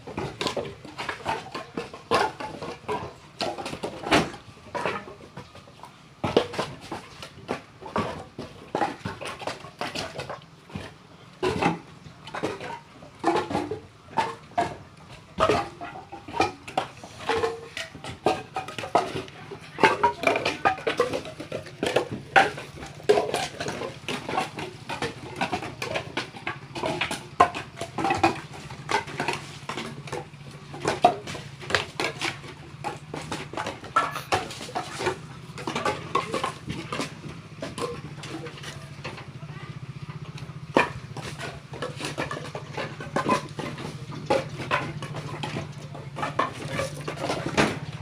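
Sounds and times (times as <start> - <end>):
wooden boards clattering: 0.0 - 48.0.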